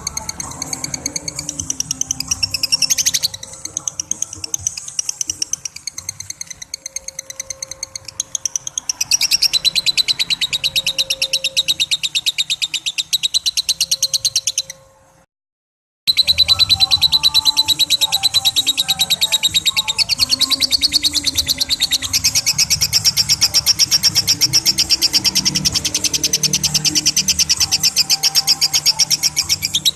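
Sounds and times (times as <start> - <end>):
lovebird shrill chattering: 0.0 - 14.9, 16.1 - 29.9.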